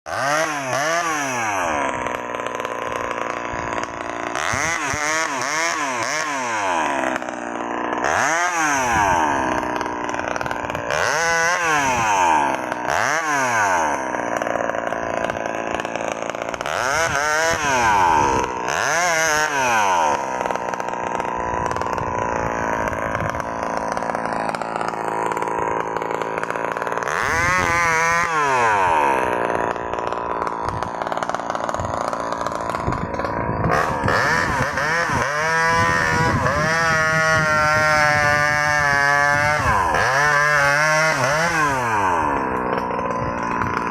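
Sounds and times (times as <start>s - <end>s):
chainsaw revving: 0.1s - 43.9s.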